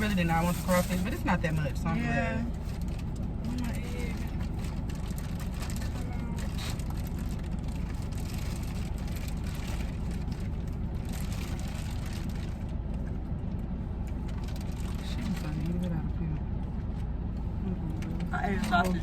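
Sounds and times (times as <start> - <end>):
air conditioning fan: 0.0 - 19.0
car engine idling: 0.0 - 19.0.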